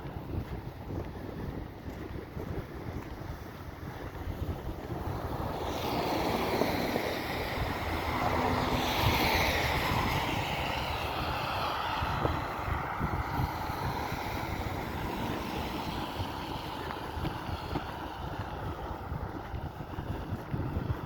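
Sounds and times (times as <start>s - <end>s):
car tyres on snowy street: 0.0s - 21.0s
wind buffeting microphone: 0.0s - 21.0s.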